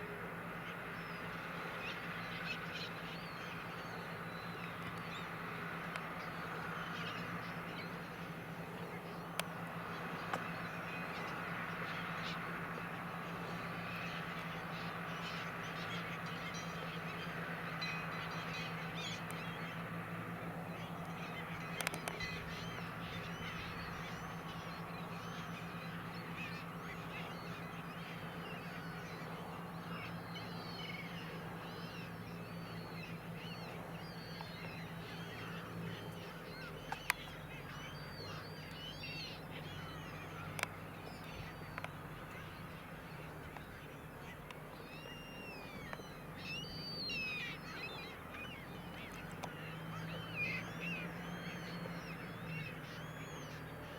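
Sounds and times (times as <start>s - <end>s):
flock of gulls calling: 0.0s - 53.9s
tractor engine humming: 3.6s - 53.9s.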